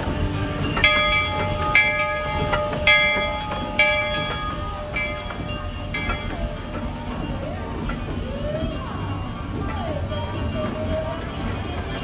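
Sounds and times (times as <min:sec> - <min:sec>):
locomotive bell ringing: 0:00.0 - 0:12.0
moving train rumble: 0:00.0 - 0:12.0.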